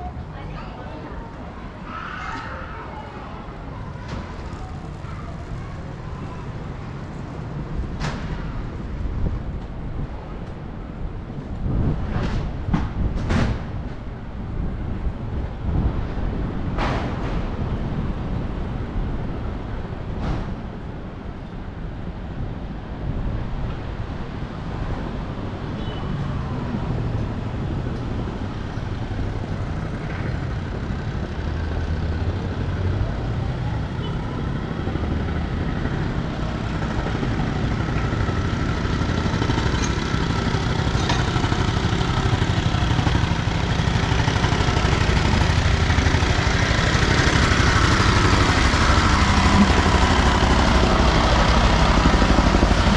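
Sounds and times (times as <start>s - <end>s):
road traffic rumble: 0.0s - 52.9s.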